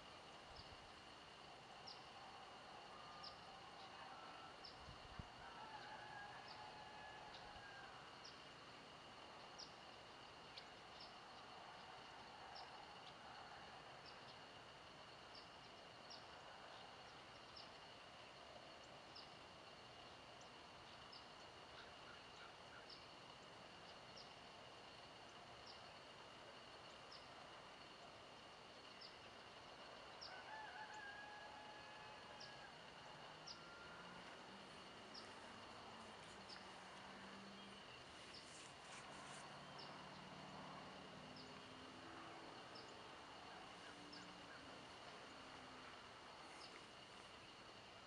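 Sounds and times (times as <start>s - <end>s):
high insect drone: 0.0s - 48.0s.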